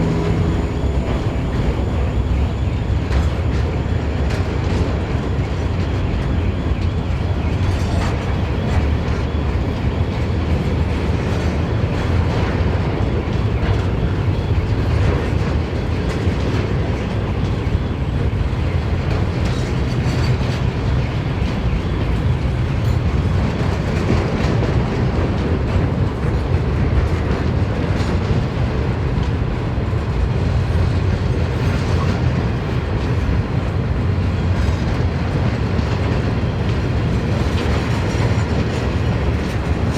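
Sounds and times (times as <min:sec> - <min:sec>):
train wagons rumbling past: 0:00.0 - 0:39.9
wheels clacking over rail joints: 0:00.0 - 0:39.9.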